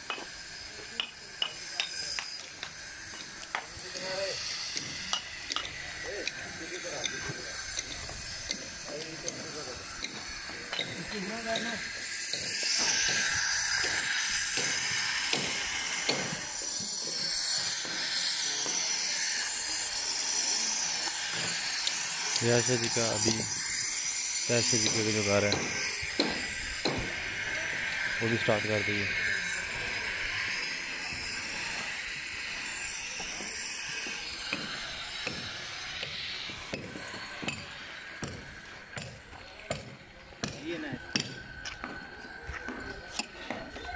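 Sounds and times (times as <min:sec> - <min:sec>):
hammer striking concrete: 0:00.0 - 0:19.2, 0:21.0 - 0:29.4, 0:33.2 - 0:43.9
steady hiss: 0:00.0 - 0:43.8.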